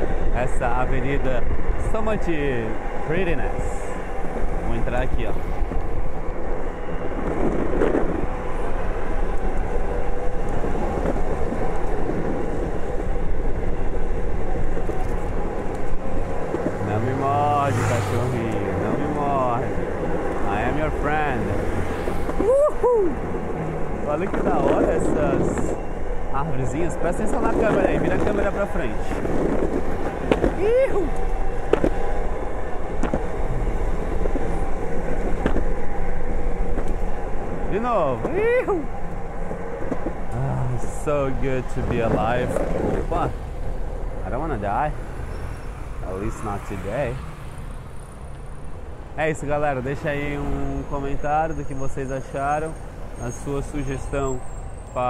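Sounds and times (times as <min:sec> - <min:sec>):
skateboard wheels rolling on asphalt: 0:00.0 - 0:51.2.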